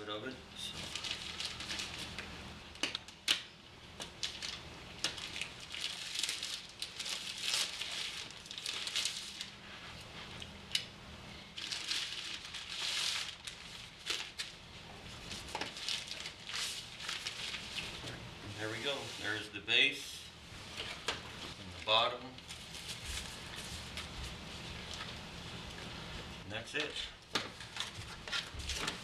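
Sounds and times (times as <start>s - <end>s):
plastic covering crinkling: 0.6s - 3.3s, 4.0s - 10.5s, 11.5s - 19.5s, 20.5s - 25.5s, 26.9s - 29.0s.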